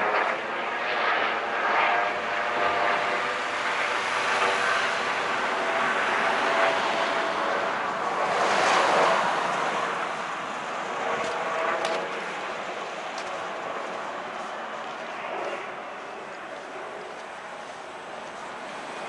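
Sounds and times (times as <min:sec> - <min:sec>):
cars passing: 0:02.1 - 0:19.0.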